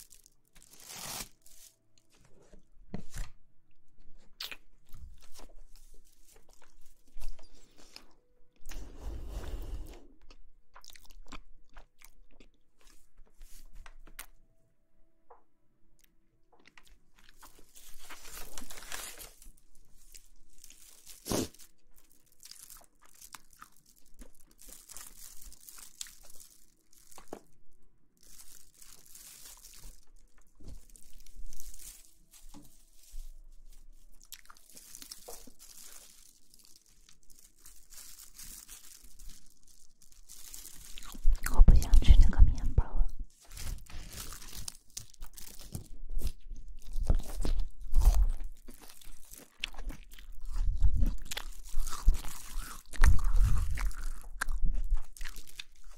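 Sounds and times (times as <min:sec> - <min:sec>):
crisp crunches and clicks: 0:00.0 - 0:03.4, 0:04.2 - 0:08.8, 0:16.0 - 0:55.9.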